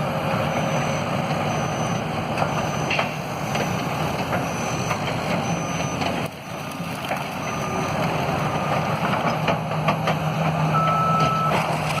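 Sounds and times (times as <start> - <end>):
diesel demolition machinery running: 0.0 - 12.0.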